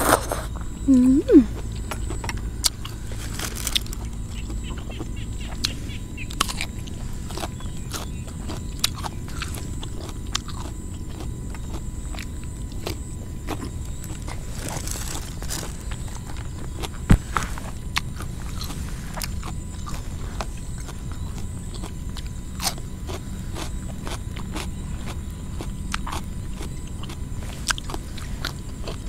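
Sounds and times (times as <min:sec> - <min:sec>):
chewing crunchy vegetables: 0:00.0 - 0:29.0.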